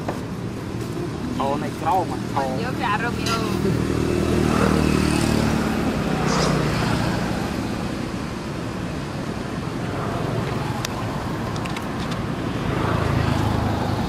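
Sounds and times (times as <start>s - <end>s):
rumbling outdoor background noise: 0.0s - 14.0s.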